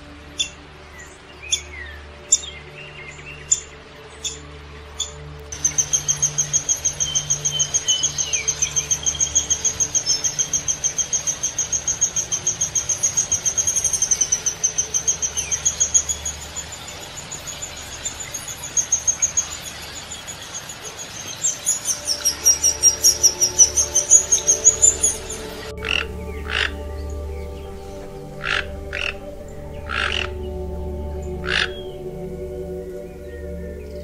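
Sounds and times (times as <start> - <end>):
woodpecker calling: 0.3 - 34.0.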